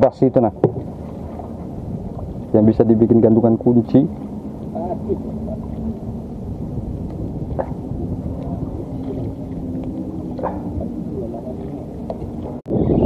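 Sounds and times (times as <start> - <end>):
water around boat: 0.0 - 13.0
wind: 0.0 - 13.0.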